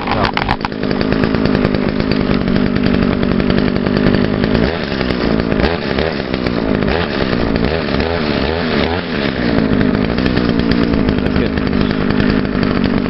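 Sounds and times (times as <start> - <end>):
string trimmer engine revving: 0.0 - 13.0.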